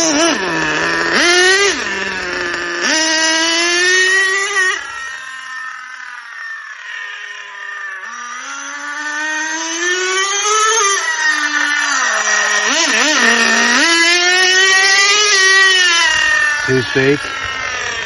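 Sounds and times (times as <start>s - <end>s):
rc nitro engine revving: 0.0s - 18.0s.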